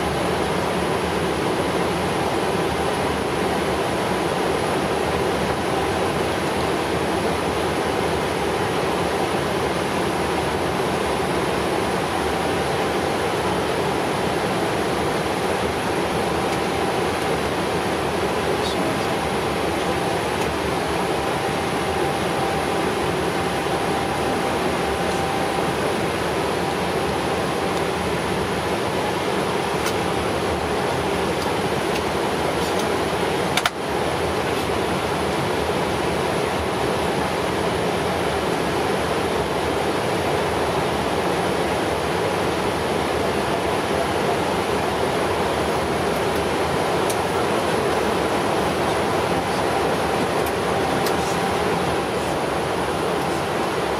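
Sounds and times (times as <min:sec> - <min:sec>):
airflow and engine noise in cockpit: 0:00.0 - 0:53.9.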